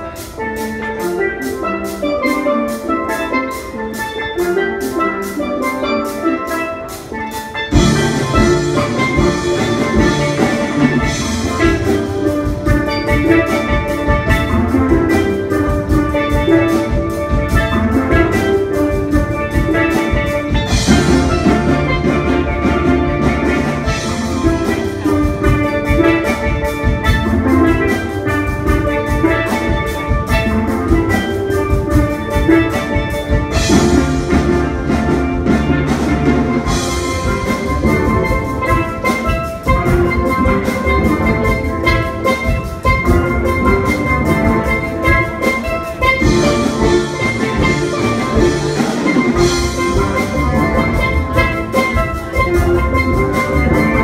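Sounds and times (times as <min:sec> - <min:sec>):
steel pan band playing: 0:00.0 - 0:54.0.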